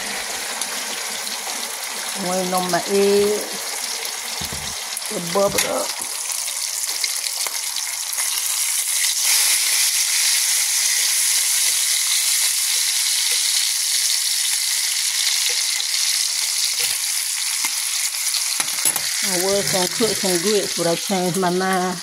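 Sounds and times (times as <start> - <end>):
bacon sizzling in a skillet: 0.0 - 22.0.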